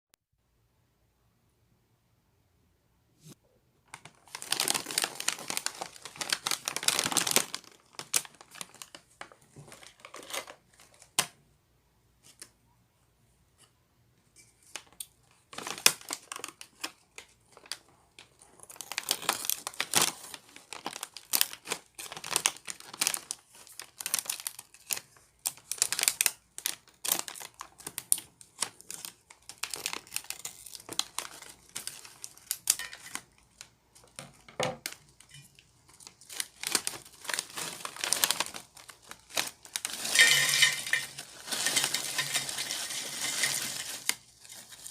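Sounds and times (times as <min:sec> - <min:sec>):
plastic snack bag crinkling: 0:03.8 - 0:11.3, 0:14.6 - 0:44.9.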